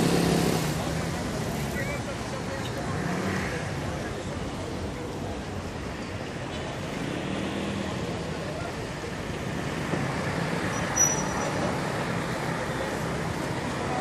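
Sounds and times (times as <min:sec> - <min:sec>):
traffic on wet street: 0:00.0 - 0:14.0.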